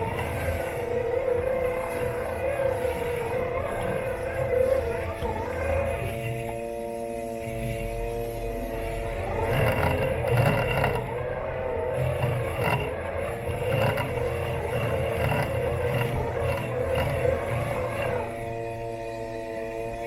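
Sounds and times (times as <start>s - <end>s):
robot lawn mower motors whining: 0.0s - 20.0s.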